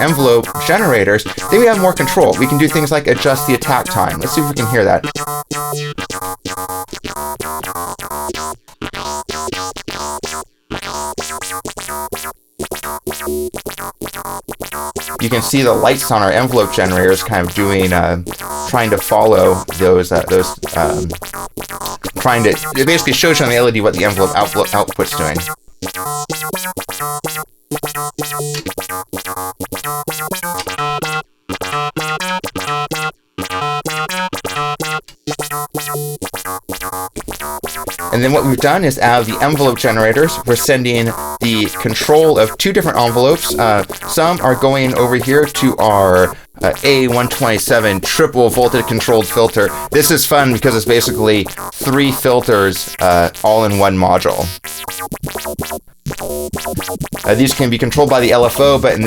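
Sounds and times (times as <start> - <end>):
synthesizer fast note sequence: 0.0 - 59.0.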